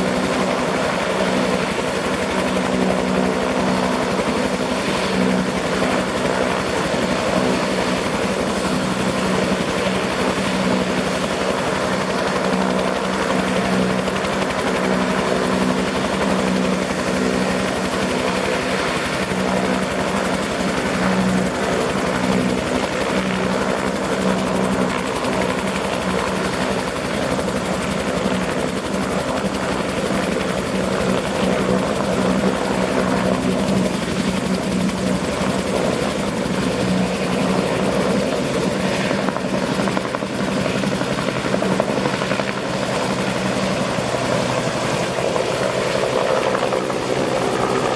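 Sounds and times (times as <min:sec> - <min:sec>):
helicopter rotor and engine drone: 0:00.0 - 0:47.9.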